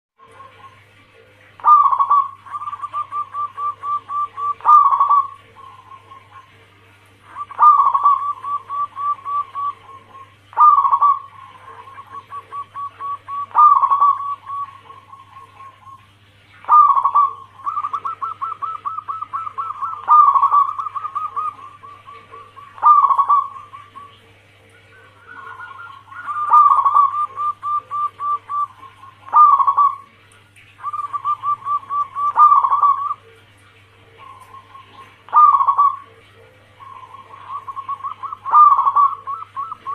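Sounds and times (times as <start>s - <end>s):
dove cooing: 0.2s - 39.9s.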